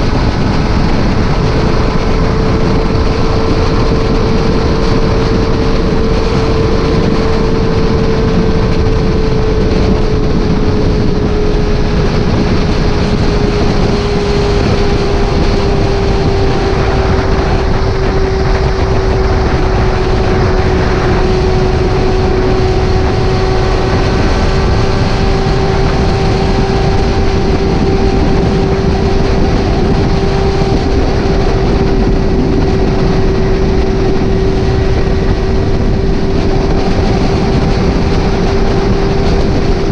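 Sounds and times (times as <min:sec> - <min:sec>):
motorcycle engine hum: 0:00.0 - 0:39.9
wind rush: 0:00.0 - 0:39.9.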